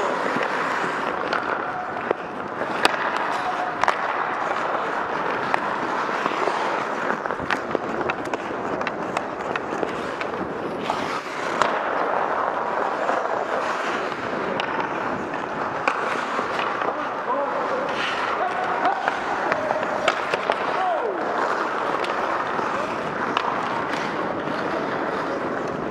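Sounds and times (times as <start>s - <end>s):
skates scraping on ice: 0.0s - 25.9s
sticks striking puck and ice: 0.0s - 25.9s.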